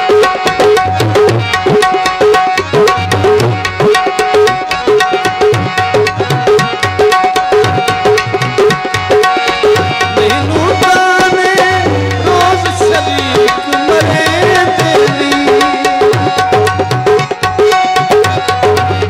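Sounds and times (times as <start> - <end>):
dholak drum rhythm: 0.0 - 19.0
harmonium melody: 0.0 - 19.0.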